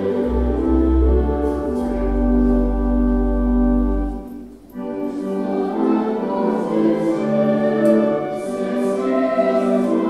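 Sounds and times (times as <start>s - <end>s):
pipe organ chord: 0.0s - 10.0s.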